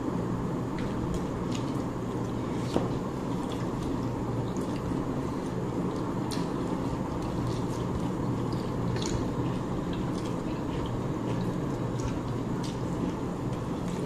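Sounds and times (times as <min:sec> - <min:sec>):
steady low hum: 0:00.0 - 0:14.0
wet chewing and mouth sounds: 0:00.7 - 0:14.0.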